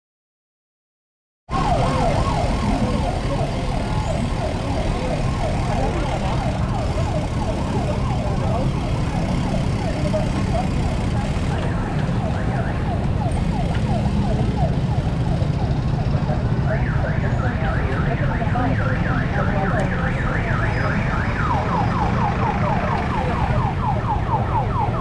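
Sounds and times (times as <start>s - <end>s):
electronic siren yelping: 1.5s - 25.0s
road rumble: 1.5s - 25.0s
wind: 1.5s - 25.0s.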